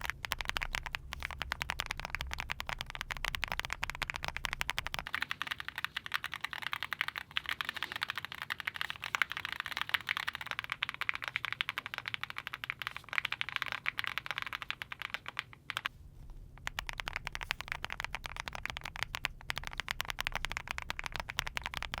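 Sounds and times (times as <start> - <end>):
typing on mechanical keyboard: 0.0 - 15.9, 16.6 - 22.0.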